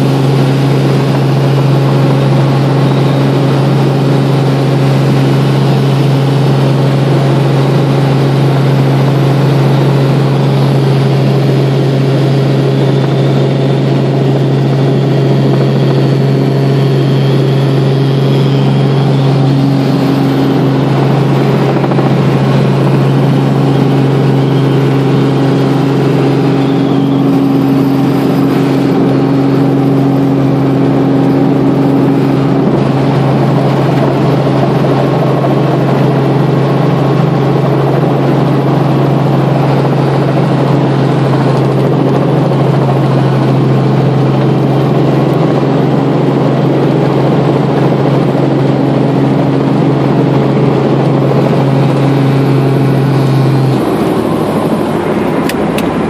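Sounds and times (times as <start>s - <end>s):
constant low hum: 0.0s - 56.0s
helicopter engine and rotor: 0.0s - 56.0s.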